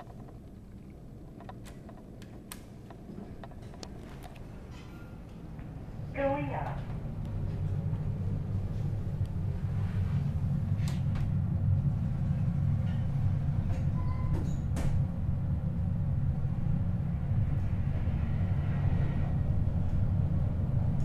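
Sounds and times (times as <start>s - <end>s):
elevator low rumble: 0.0s - 21.0s.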